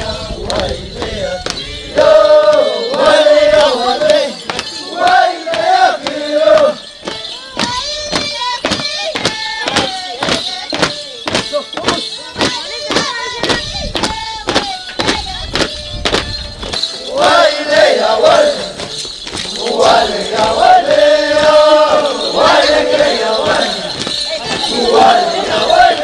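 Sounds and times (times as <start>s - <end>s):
group of voices singing: 0.0s - 26.0s
steady beat of sharp strikes: 0.5s - 26.0s.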